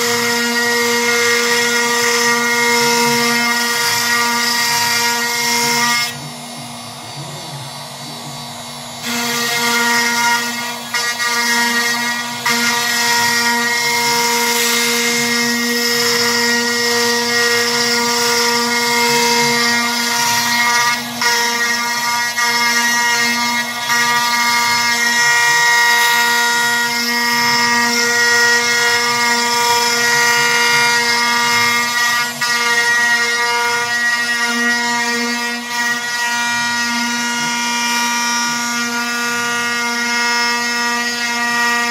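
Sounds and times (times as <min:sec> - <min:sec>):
router spindle whine: 0:00.0 - 0:41.9.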